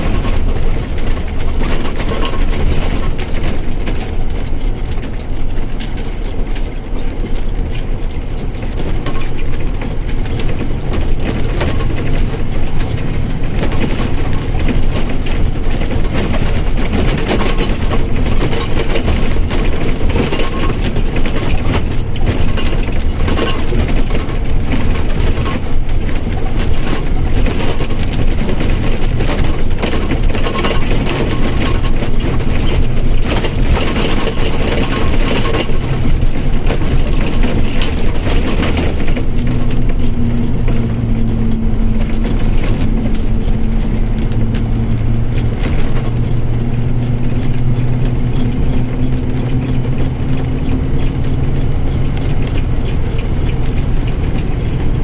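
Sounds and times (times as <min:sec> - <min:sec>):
bus drivetrain rattling: 0:00.0 - 0:55.0.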